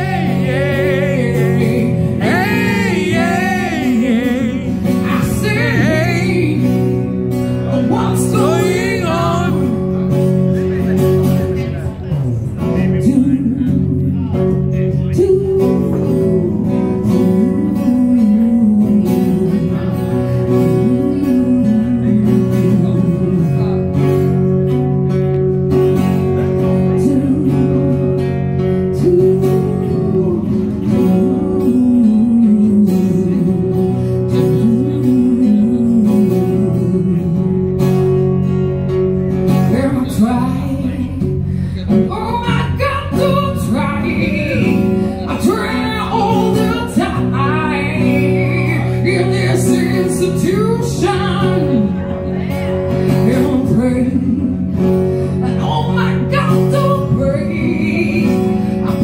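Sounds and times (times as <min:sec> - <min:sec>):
woman singing into a microphone: 0:00.0 - 0:09.9, 0:15.0 - 0:24.2, 0:26.6 - 0:38.0, 0:39.5 - 0:59.0
acoustic guitar strumming: 0:00.0 - 0:59.0.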